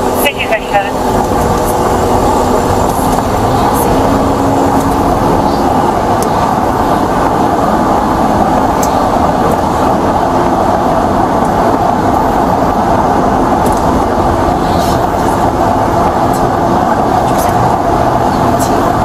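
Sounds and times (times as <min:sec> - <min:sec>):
car engine running: 0:00.0 - 0:19.0
road noise in car cabin: 0:00.0 - 0:19.0.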